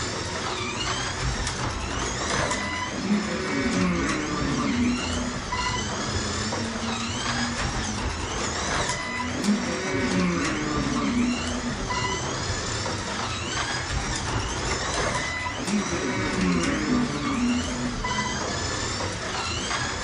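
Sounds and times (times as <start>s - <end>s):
slot car motor whining: 0.0s - 20.0s.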